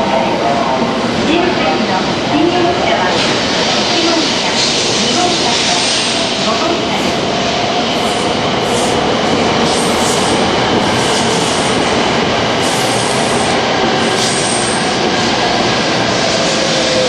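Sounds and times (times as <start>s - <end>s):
train rushing past: 0.0s - 17.0s.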